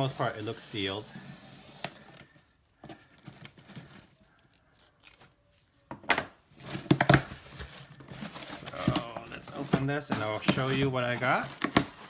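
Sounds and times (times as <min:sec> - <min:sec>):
packaging crinkling and scraping: 0:00.0 - 0:05.8, 0:06.5 - 0:12.0.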